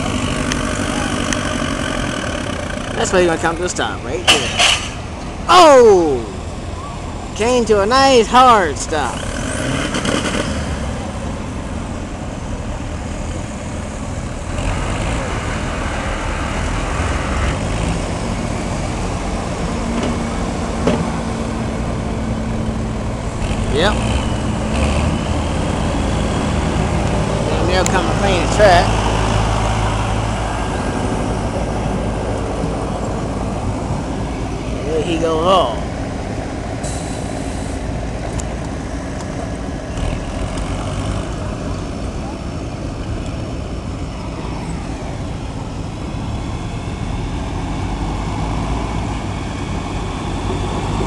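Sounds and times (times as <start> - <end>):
diesel engine drone: 0.0 - 51.0.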